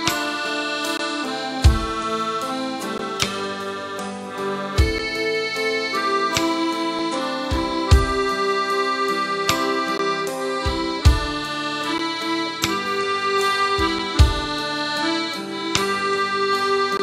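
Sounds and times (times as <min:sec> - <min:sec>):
accordion melody: 0:00.0 - 0:17.0.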